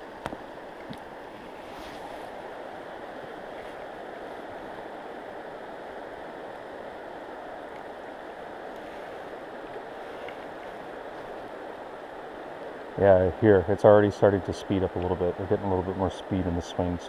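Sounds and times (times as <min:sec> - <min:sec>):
river current rushing over rocks: 0:00.0 - 0:17.0.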